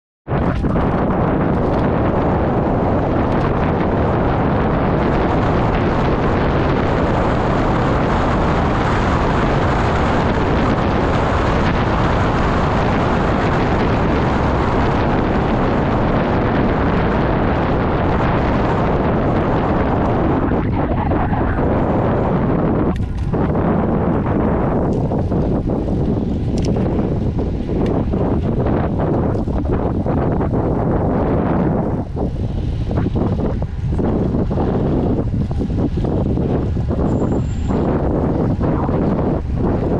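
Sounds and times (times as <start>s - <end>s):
wind buffeting microphone: 0.2s - 39.9s.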